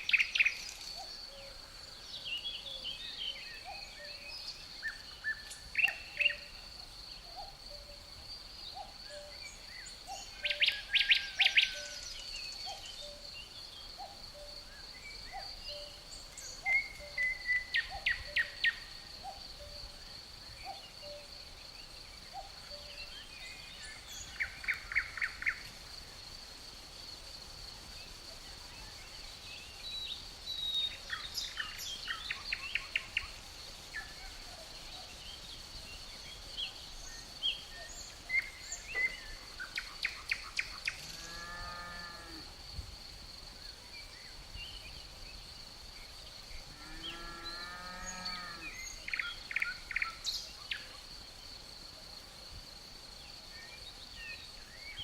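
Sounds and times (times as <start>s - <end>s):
crickets trilling: 0.0s - 55.0s
songbirds chirping: 0.0s - 55.0s.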